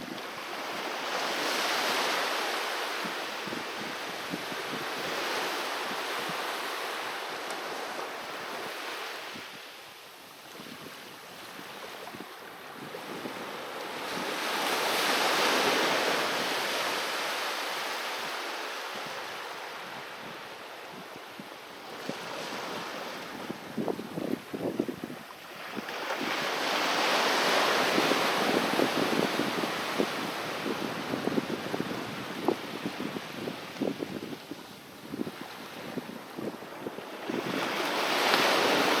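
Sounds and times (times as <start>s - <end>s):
sea waves breaking on beach: 0.0s - 39.0s.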